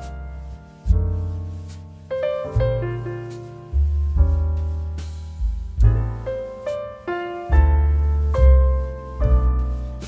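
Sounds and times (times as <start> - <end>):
piano chords over deep bass: 0.0 - 10.0.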